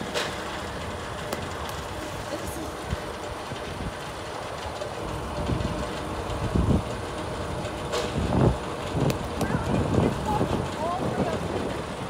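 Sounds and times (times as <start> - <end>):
steady outdoor hiss: 0.0 - 12.0
wind buffeting microphone: 0.8 - 12.0.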